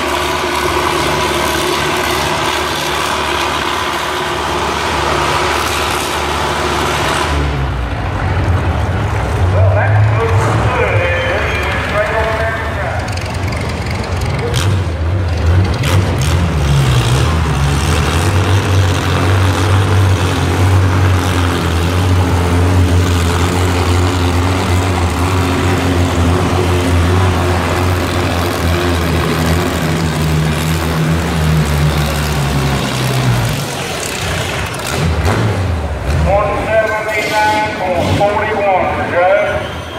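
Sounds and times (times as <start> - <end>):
tractor engine running under load: 0.0 - 39.4.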